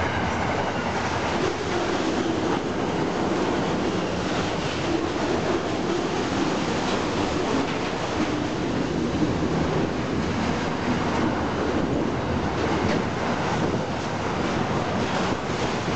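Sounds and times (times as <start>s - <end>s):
freight train wagons rolling on rails: 0.0s - 15.9s.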